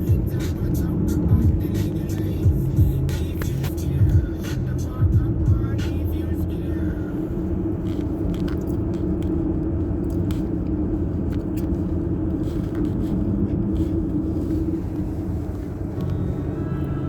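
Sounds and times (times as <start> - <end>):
car engine running: 0.0 - 17.0
road noise rumble: 0.0 - 17.0.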